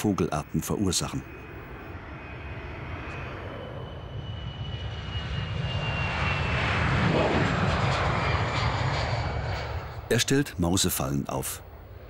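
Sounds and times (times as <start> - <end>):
airliner engines rumbling: 0.0 - 12.0
high engine whine: 0.0 - 12.0.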